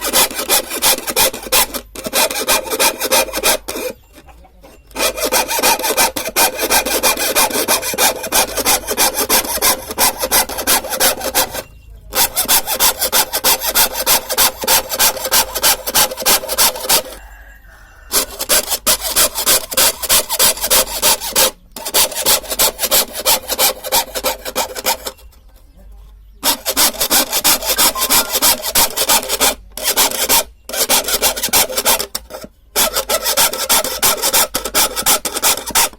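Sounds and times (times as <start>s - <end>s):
hand saw cutting wood: 0.0s - 17.5s, 18.1s - 25.3s, 26.2s - 35.9s.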